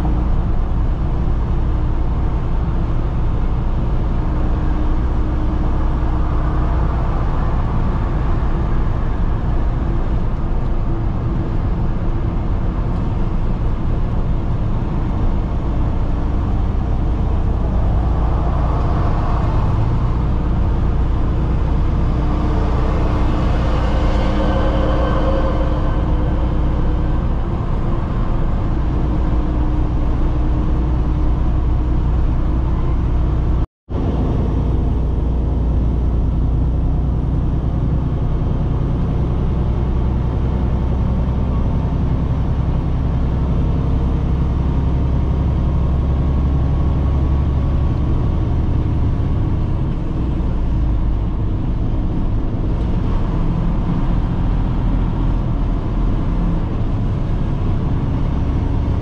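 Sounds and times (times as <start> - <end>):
truck engine and tyre noise: 0.0 - 59.0.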